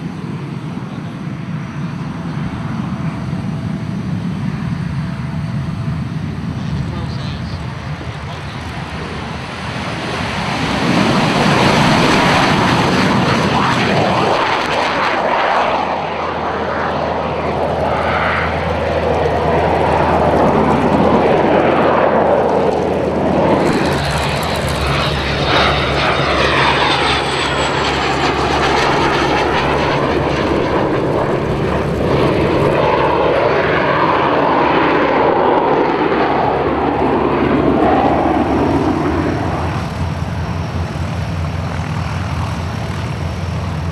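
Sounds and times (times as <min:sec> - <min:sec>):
jet aircraft taking off: 0:00.0 - 0:43.9.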